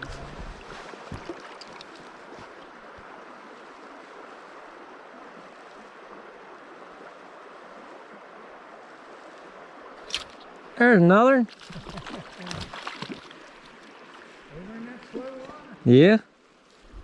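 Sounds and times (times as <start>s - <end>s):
stream water running: 0.0s - 17.0s.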